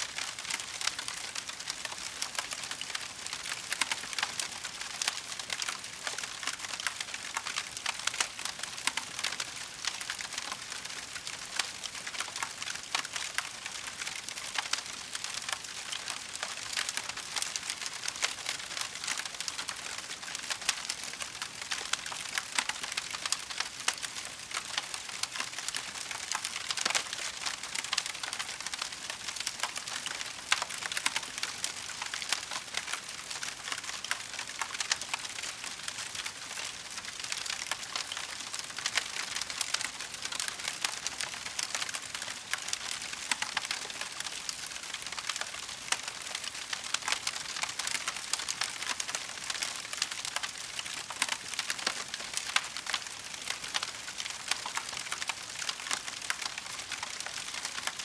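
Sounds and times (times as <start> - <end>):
firewood crackling and popping: 0.1 - 58.0.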